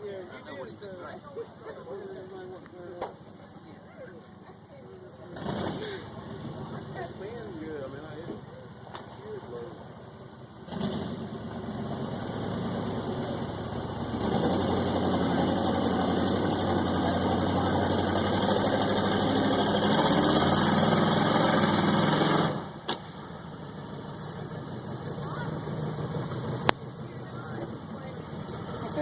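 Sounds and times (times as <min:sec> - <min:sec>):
truck engine under heavy throttle: 0:00.0 - 0:29.0.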